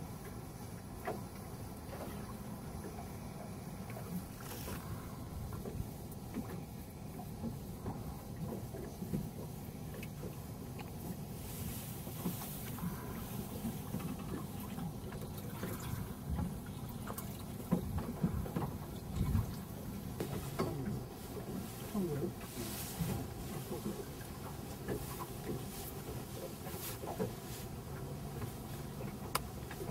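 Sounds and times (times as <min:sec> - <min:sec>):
water lapping against boat hull: 0:00.0 - 0:29.9.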